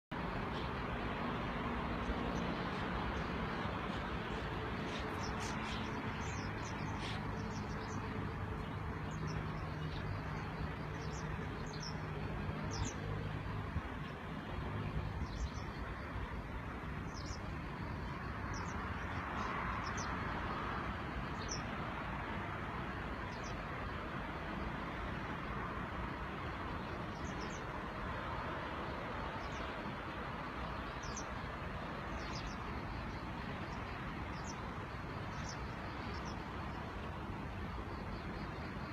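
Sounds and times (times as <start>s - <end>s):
river rushing: 0.2s - 38.9s.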